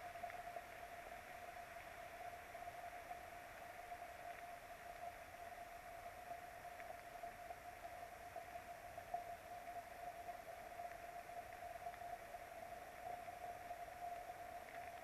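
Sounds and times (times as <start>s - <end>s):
constant steady tone: 0.0s - 15.0s
faint rain hiss: 0.0s - 15.0s.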